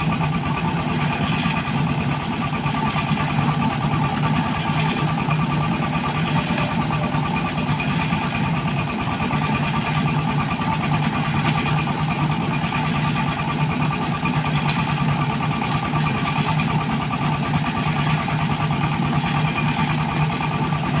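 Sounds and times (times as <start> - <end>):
juice crushing machine running: 0.0 - 21.0.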